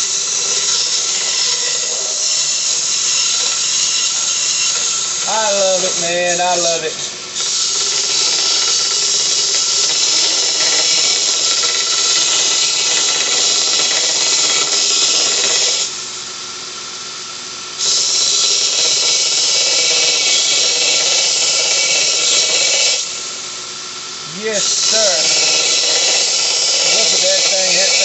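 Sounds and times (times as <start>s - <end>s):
belt sander grinding metal: 0.0s - 16.0s, 17.8s - 28.0s.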